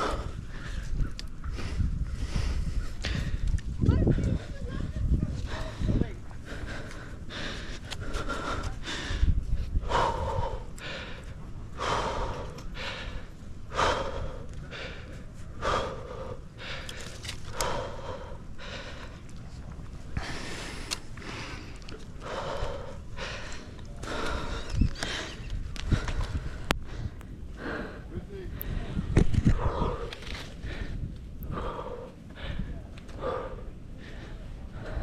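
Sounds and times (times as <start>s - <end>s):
person breathing hard: 0.0s - 4.5s, 5.4s - 35.0s
wind rumble on microphone: 0.0s - 35.0s.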